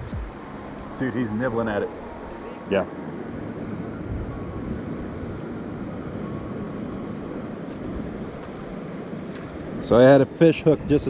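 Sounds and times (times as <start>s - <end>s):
river flowing: 0.0s - 10.9s.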